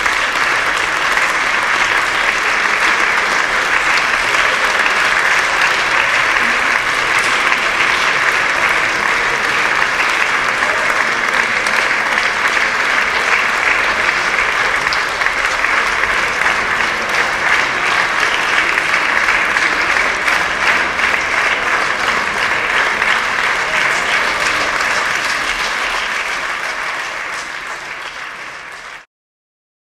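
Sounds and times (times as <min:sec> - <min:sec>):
audience applauding: 0:00.0 - 0:29.1.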